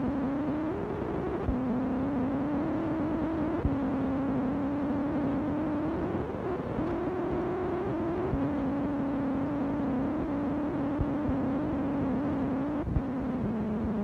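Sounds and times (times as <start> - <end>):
machine humming: 0.0 - 14.0.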